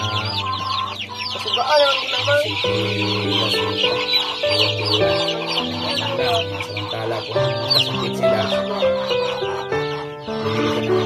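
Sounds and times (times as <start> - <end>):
background music with low notes: 0.0 - 11.0
chicks peeping: 0.0 - 11.0.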